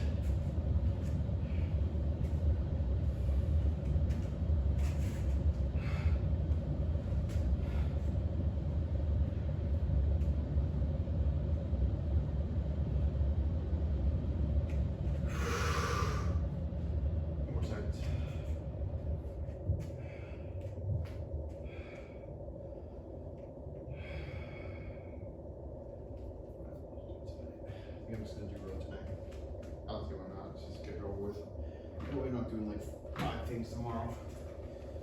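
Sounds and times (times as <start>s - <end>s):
machine rumbling with hum: 0.0s - 35.0s.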